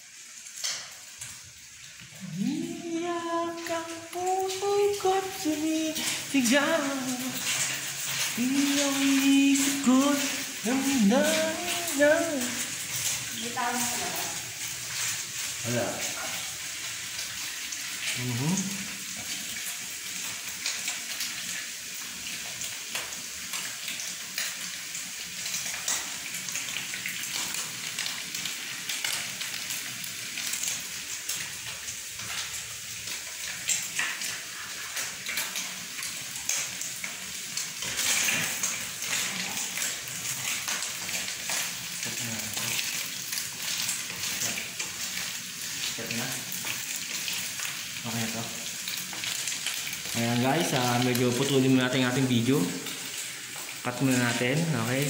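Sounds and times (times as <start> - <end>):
stir-fry sizzling in hot oil: 0.0 - 55.0.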